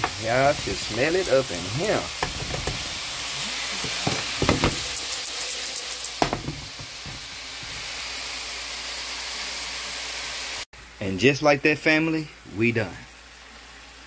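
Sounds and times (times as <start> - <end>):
vegetables sizzling in hot oil: 0.0 - 11.0, 12.4 - 14.0.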